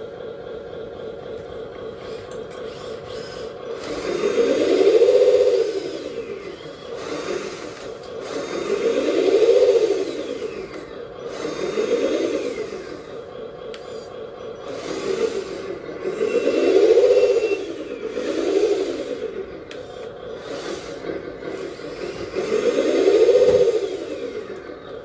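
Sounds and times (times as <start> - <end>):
electric motor and gears whining: 0.0 - 25.0
steady low hum: 0.0 - 25.0.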